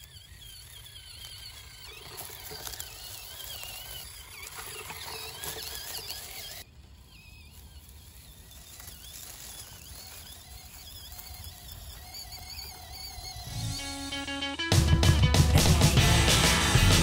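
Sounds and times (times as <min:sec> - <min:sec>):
tyres rustling through dry leaves: 0:00.0 - 0:14.3
electric motor whining: 0:00.0 - 0:14.7.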